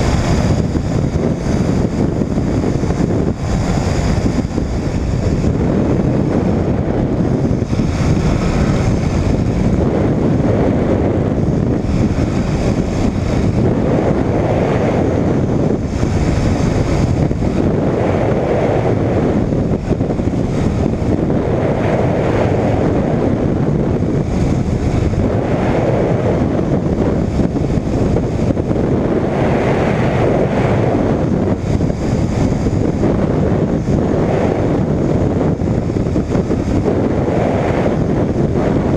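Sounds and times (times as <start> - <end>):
pusher engine and propeller drone: 0.0 - 38.9
wind rushing on microphone: 0.0 - 38.9.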